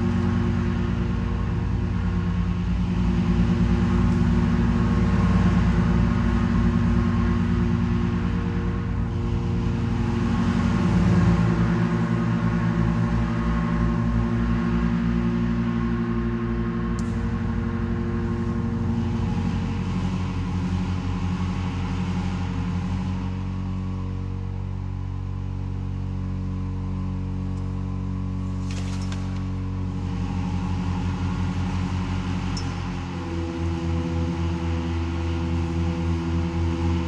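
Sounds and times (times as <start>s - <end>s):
pipe organ low sustained notes: 0.0s - 37.0s.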